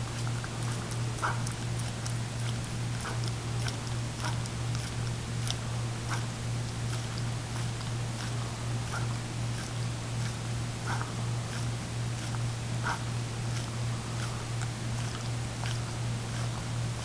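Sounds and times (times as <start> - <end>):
dog licking and smacking: 0.0 - 17.0
steady low hum: 0.0 - 17.0.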